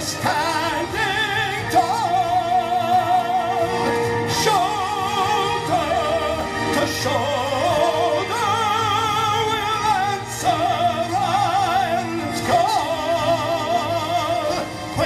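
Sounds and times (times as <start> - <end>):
karaoke backing track: 0.0 - 15.0
man singing with vibrato: 0.0 - 15.0.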